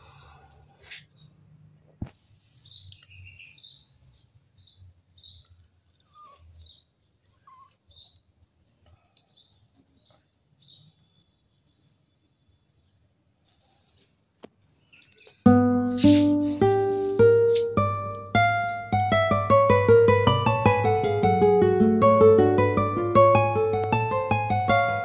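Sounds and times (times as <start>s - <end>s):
small birds chirping: 0.7s - 22.4s.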